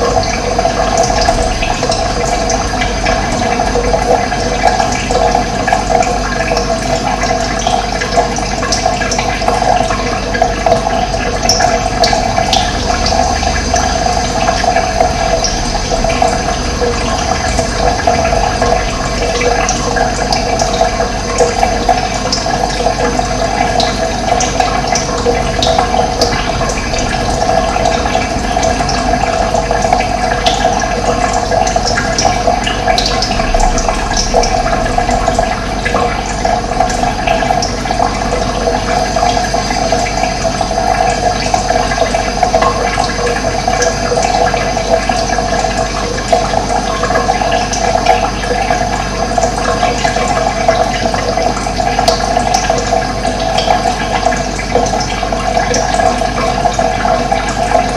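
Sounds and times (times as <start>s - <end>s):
water rushing: 0.0s - 57.9s.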